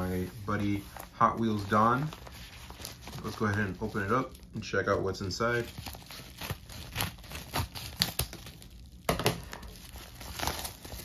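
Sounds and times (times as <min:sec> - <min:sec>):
padded envelope crinkling: 0:00.0 - 0:11.0.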